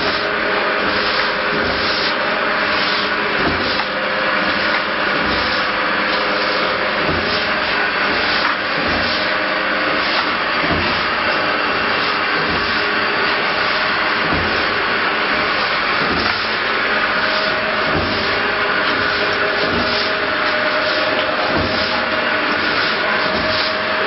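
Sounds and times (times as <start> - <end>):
mixer running with rhythmic swell: 0.0 - 24.0.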